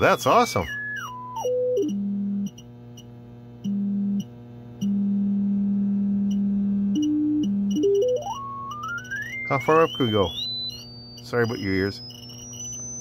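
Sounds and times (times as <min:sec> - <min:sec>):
sine-wave test tone through radio: 0:00.0 - 0:02.6, 0:03.6 - 0:13.0
constant electrical hum: 0:00.0 - 0:13.0.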